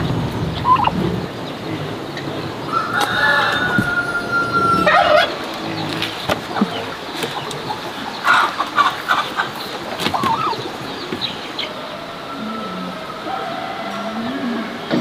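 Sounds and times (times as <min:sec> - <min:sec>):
farmyard fowl calling: 0:00.0 - 0:15.0.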